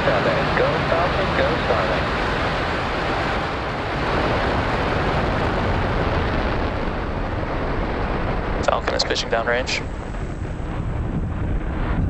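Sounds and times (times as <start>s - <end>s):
rocket engine rumble: 0.0s - 12.0s.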